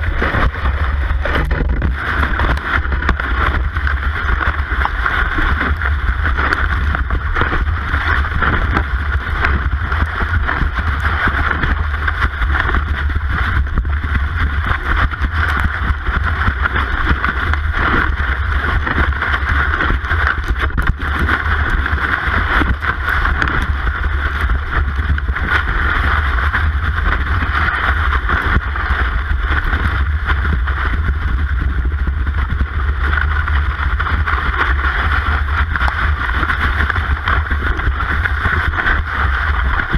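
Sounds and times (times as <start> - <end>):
low rumble of vibration and wind: 0.0 - 39.9.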